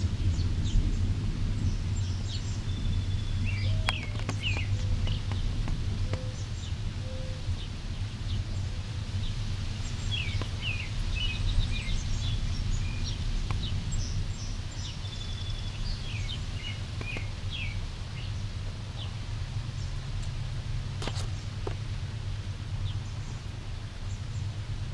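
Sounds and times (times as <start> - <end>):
small birds chirping: 0.0 - 24.8
steady low rumble: 0.0 - 24.9.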